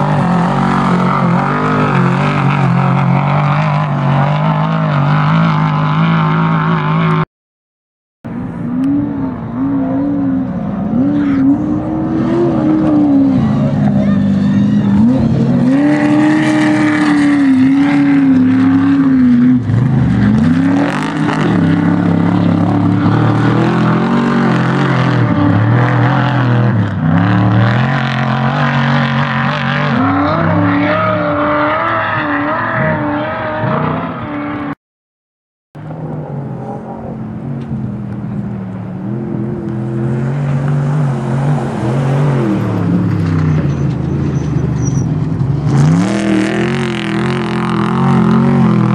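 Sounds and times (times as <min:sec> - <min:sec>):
race vehicle engines revving past: 0:00.0 - 0:07.2, 0:08.4 - 0:34.8, 0:35.9 - 0:48.9.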